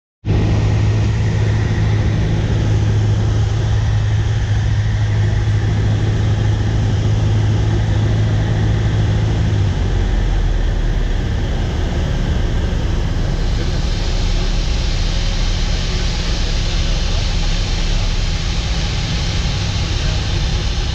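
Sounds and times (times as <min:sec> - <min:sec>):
air noise: 0:00.2 - 0:20.9
propeller plane engine droning: 0:00.2 - 0:20.9.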